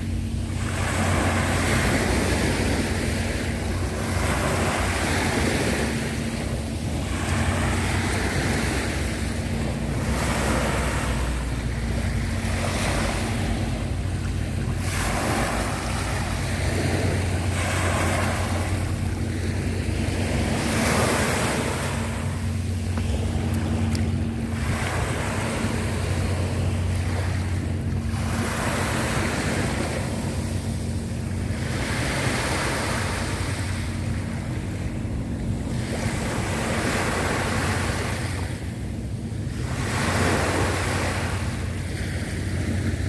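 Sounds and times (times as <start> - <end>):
small waves washing onto shore: 0.0 - 43.0
steady low hum: 0.0 - 43.0.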